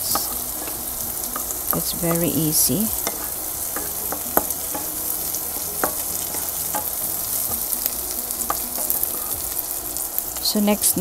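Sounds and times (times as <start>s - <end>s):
spatula scraping and tapping pan: 0.0s - 10.3s
food sizzling in a frying pan: 0.0s - 11.0s.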